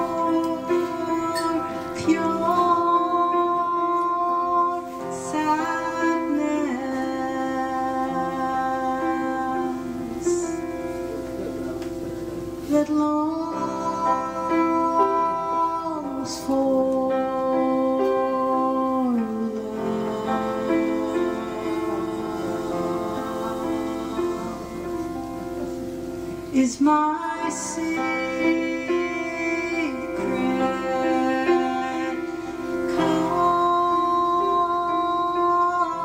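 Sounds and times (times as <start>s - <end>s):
woman singing: 0.0s - 10.9s, 12.6s - 25.6s, 26.5s - 36.0s
piano accompaniment: 0.0s - 36.0s.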